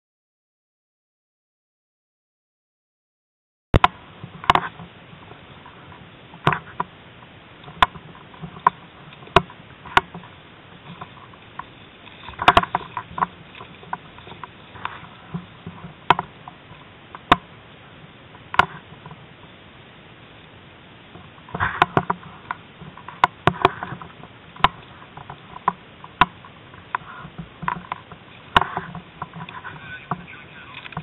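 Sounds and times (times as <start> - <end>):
steady hiss: 3.8 - 31.0.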